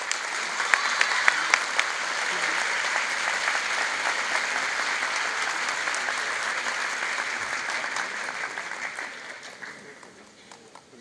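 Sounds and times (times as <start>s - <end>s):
spectators applauding: 0.0s - 11.0s.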